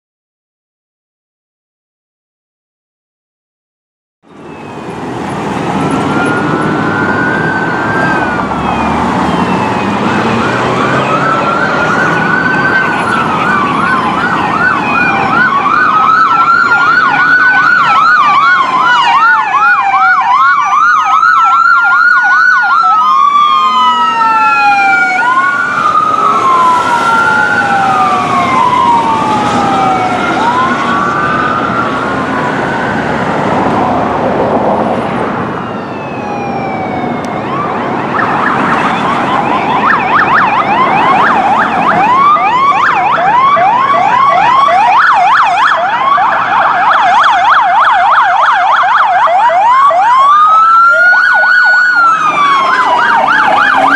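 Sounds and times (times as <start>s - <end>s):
road traffic rumble: 4.2s - 53.9s
ambulance siren wailing and yelping: 4.3s - 53.9s.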